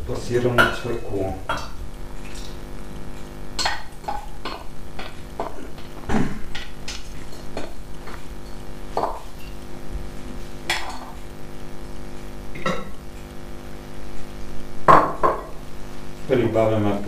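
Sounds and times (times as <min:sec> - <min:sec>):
low hum: 0:00.0 - 0:16.6.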